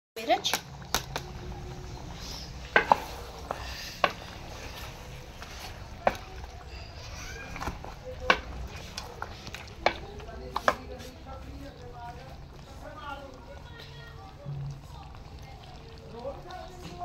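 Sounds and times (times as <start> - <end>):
wooden spoon stirring thick curry: 0.8 - 17.0.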